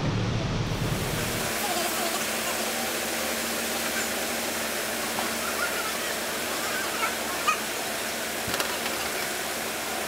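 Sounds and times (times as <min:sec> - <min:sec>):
water gushing through lock gate: 0:01.2 - 0:10.0.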